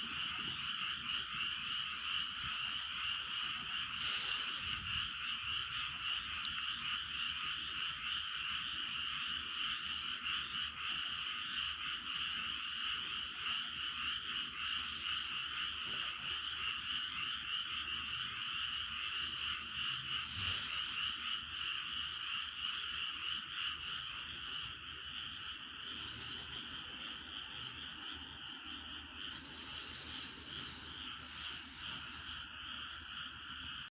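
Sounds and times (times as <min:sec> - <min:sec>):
frogs chorus trilling: 0:00.0 - 0:33.9.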